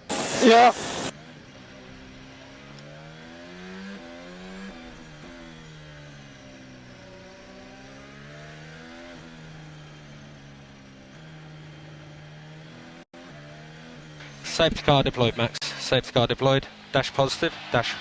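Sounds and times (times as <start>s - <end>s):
racing car engine: 0.0s - 18.0s.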